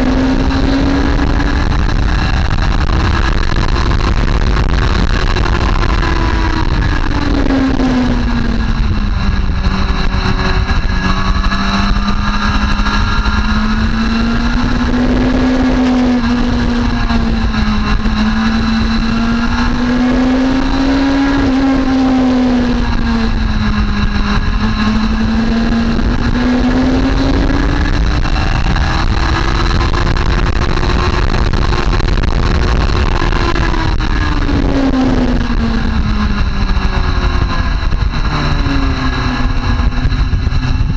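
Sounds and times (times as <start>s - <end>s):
motorcycle engine revving: 0.0s - 40.9s
steady low rumble: 0.0s - 40.9s.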